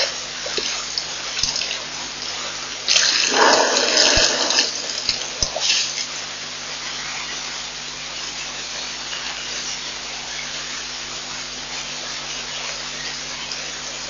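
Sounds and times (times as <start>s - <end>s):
faint low electrical hum: 0.0s - 14.0s
steady hiss: 0.0s - 14.0s.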